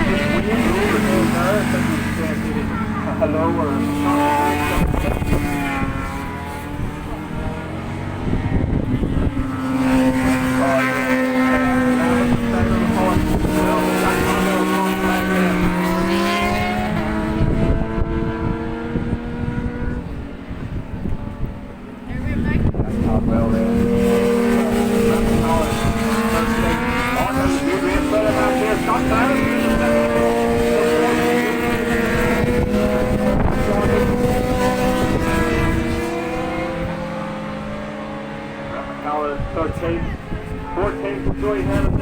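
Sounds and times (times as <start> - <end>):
racing motorcycle engines: 0.0 - 42.0
wind buffeting microphone: 0.0 - 42.0.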